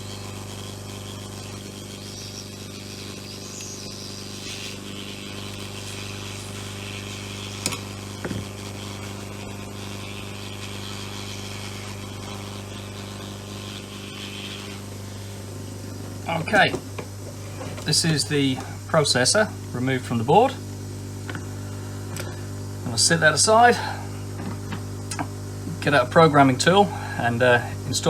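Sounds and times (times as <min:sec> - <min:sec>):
hot air blower hum and hiss: 0:00.0 - 0:28.0.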